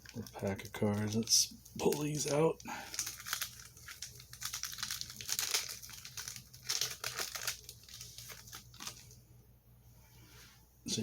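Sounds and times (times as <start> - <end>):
card pack wrapper crinkling: 0.0 - 9.2.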